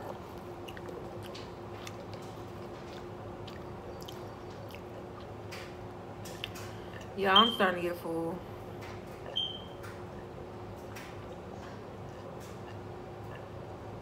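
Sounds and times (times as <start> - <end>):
quiet chewing: 0.0 - 7.2, 8.7 - 14.0
steady low hum: 0.0 - 14.0.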